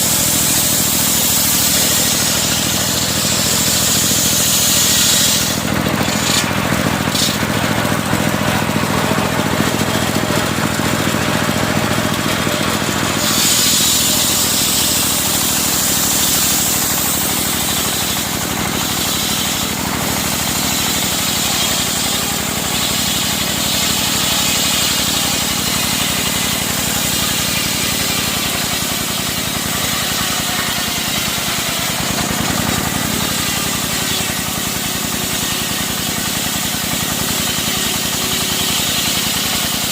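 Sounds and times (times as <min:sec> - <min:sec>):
high hiss of saw: 0:00.0 - 0:08.9, 0:12.2 - 0:39.9
circular sawmill engine running: 0:00.0 - 0:39.9.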